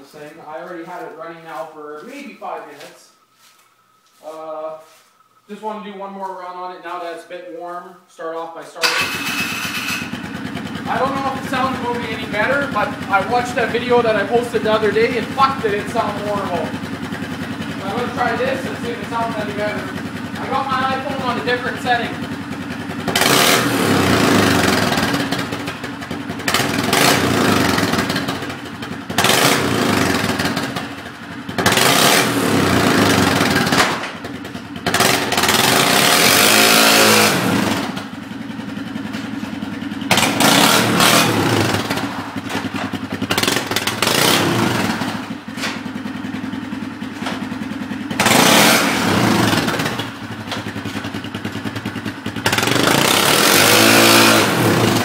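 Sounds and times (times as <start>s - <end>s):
atv engine revving: 8.8s - 55.0s.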